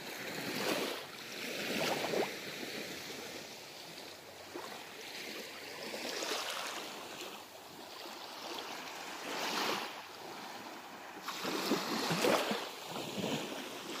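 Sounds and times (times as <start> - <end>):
small waves lapping on shore: 0.0 - 14.0.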